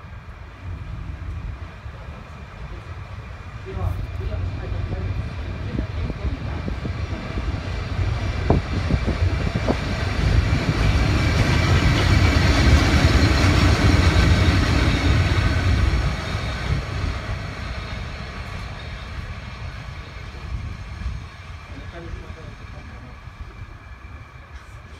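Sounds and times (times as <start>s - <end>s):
electric locomotive whine: 0.0s - 24.9s
train wheels rumbling on rails: 0.0s - 24.9s.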